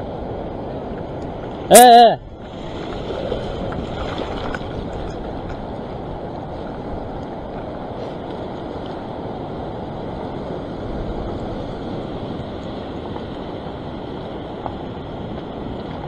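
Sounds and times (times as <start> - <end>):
ocean swell washing over rocks: 0.0 - 16.0
wind noise on microphone: 0.0 - 16.0.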